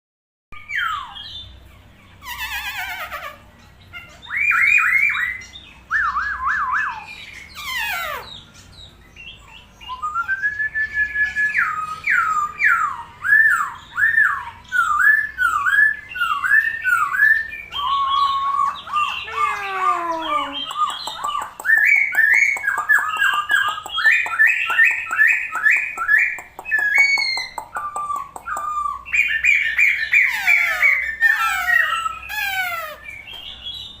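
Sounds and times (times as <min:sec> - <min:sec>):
songbird singing: 0:00.6 - 0:34.0.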